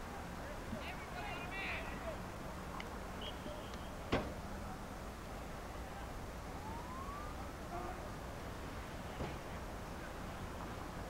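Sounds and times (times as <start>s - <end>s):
faint outdoor ambience: 0.0s - 11.0s
recording hiss: 0.0s - 11.0s.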